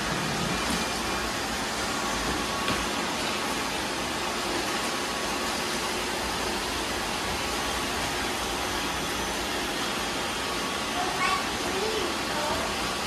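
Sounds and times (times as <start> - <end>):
robot vacuums whirring: 0.0 - 13.0.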